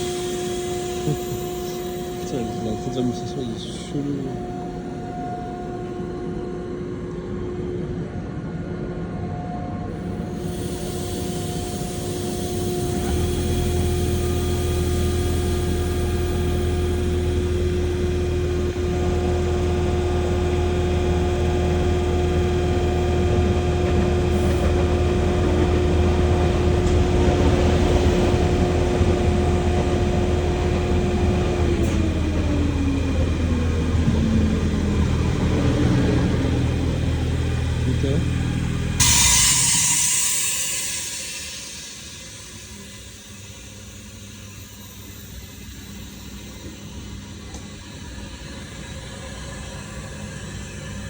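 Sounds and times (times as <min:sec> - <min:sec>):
low hum: 0:00.0 - 0:47.6
electric train whine: 0:00.0 - 0:51.0.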